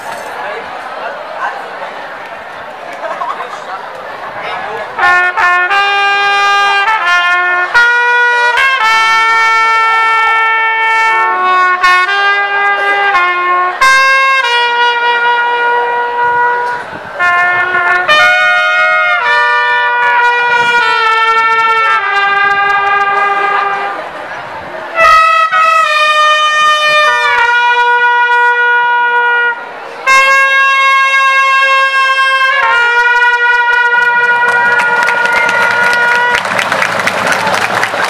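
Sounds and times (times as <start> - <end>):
trumpet slow melody: 4.9 - 24.2, 24.9 - 37.7.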